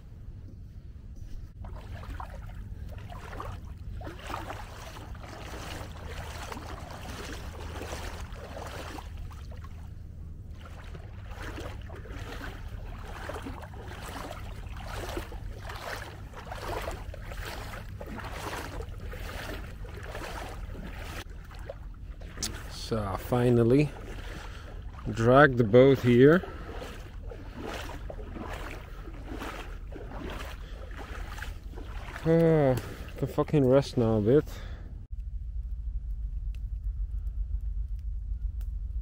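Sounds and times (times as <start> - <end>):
wind rumble on microphone: 0.0 - 34.0, 34.8 - 39.0
paddle strokes splashing water: 1.6 - 34.7.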